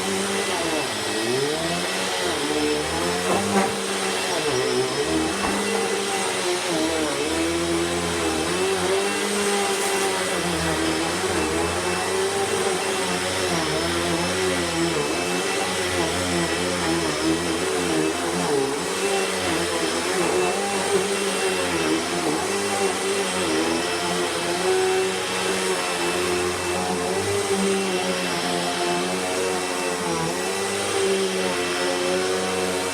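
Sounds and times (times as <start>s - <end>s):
vacuum cleaner running: 0.0s - 32.9s.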